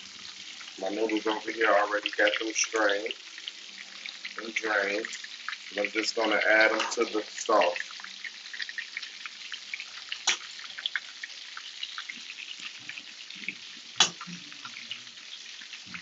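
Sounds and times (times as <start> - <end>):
sauce sizzling in a pan: 0.0 - 16.0.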